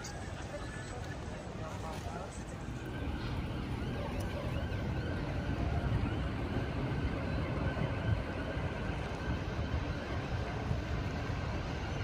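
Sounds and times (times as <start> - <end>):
distant traffic rumble: 0.0 - 12.0
wind buffeting microphone: 0.0 - 12.0.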